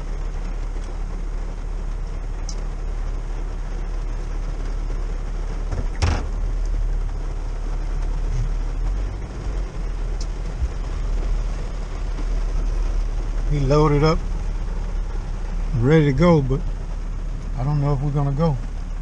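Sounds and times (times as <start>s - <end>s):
engine rumble inside cab: 0.0s - 19.0s
heavy rain: 0.0s - 19.0s.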